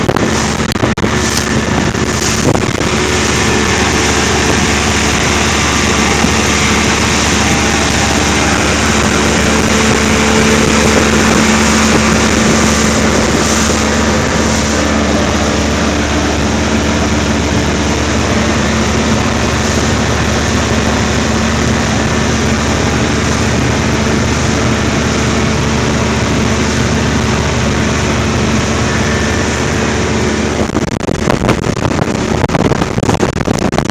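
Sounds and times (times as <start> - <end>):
engine humming: 0.0 - 33.9
rushing noise: 0.0 - 33.9.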